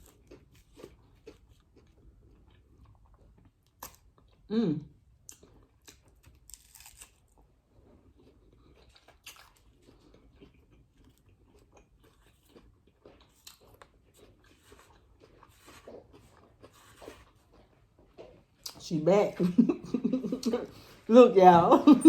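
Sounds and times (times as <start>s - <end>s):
crunching and chewing taco: 0.0s - 18.9s.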